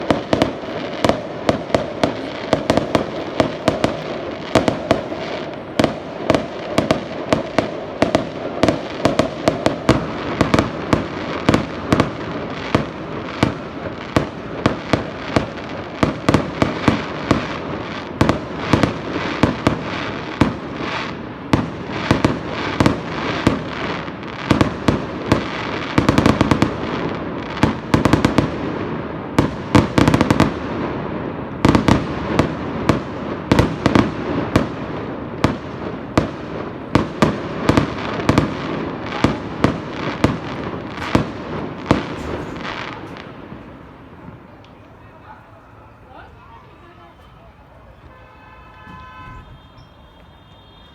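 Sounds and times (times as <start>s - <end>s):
fireworks popping and banging: 0.0s - 45.3s, 48.0s - 50.9s.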